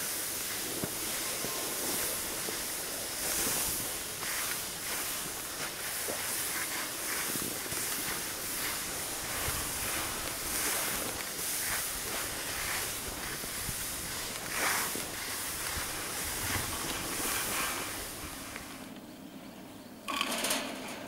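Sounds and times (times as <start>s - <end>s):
skis scraping over packed snow: 0.0s - 18.9s.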